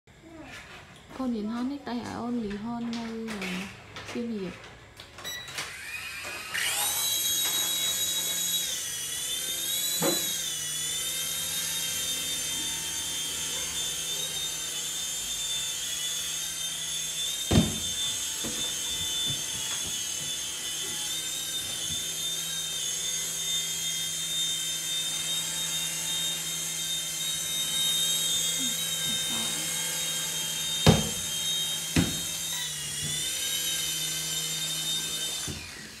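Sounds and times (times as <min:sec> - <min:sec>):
toy helicopter motors whining: 0:00.2 - 0:36.0.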